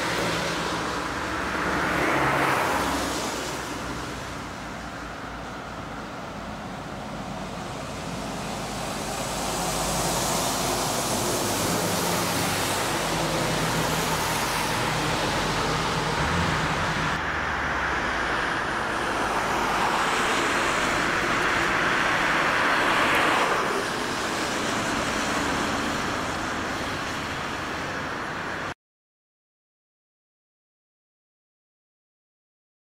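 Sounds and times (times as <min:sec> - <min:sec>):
passing vehicle tyre and engine noise: 0:00.0 - 0:28.8
road noise: 0:00.0 - 0:28.8.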